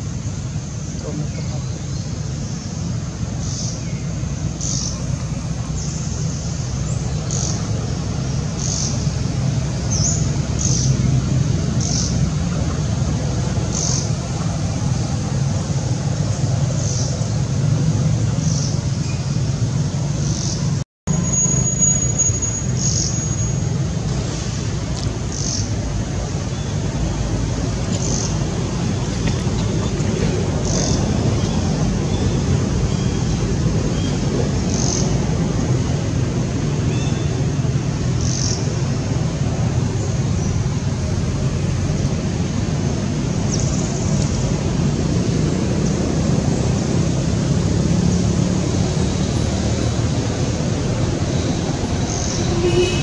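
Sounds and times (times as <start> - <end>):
low outdoor rumble: 0.0 - 20.8, 21.7 - 53.0.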